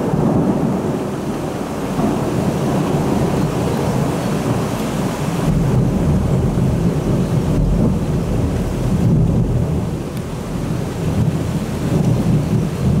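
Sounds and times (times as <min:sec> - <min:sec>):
heavy rain pouring: 0:00.0 - 0:13.0
thunder rumbling: 0:00.0 - 0:13.0.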